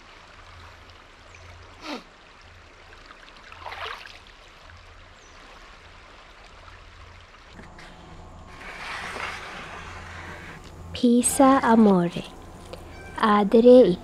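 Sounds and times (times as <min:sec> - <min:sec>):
flowing water rushing: 0:00.0 - 0:13.1.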